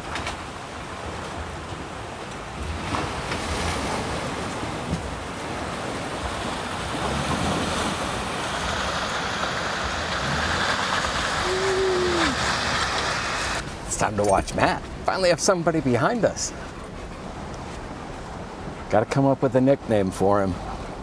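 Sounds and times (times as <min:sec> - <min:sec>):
rushing creek water: 0:00.0 - 0:21.0.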